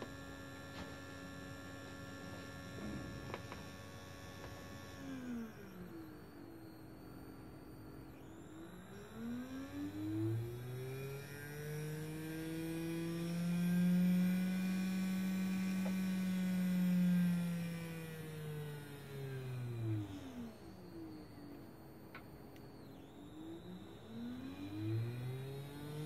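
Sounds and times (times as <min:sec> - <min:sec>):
small electric motor whining: 0:00.0 - 0:26.0.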